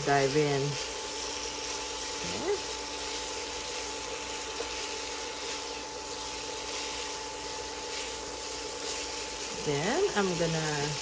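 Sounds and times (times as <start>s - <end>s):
food sizzling in a hot pan: 0.0s - 11.0s
steady hum: 0.0s - 11.0s.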